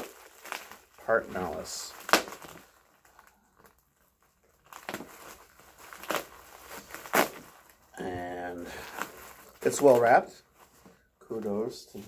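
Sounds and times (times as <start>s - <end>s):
bubble wrap crinkling: 0.0s - 12.0s
sharp bubble wrap crackles: 0.0s - 12.0s.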